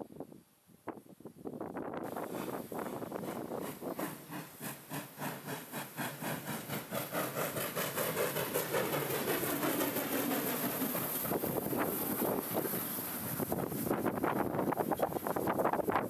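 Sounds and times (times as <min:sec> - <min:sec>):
steam locomotive chuffing: 0:02.0 - 0:16.0.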